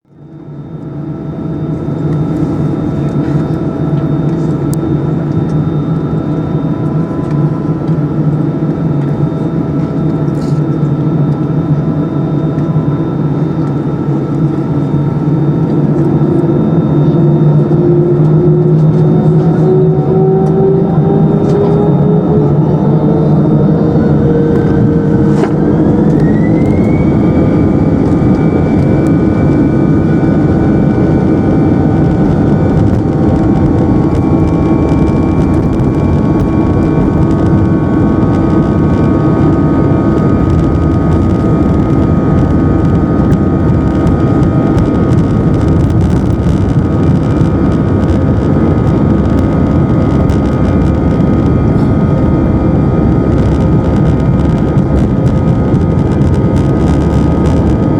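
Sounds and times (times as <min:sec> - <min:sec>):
jet engines spooling up: 0:00.3 - 0:57.9.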